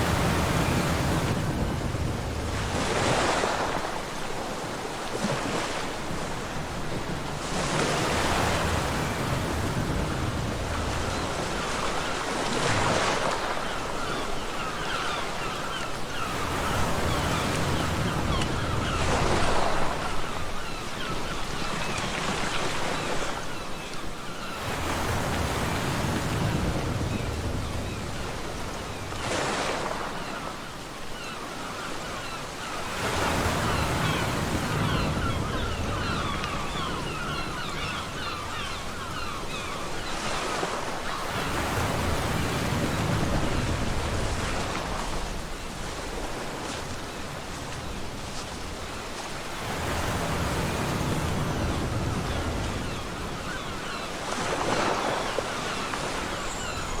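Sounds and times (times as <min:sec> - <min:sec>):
ocean waves breaking: 0:00.0 - 0:23.6, 0:24.4 - 0:57.0.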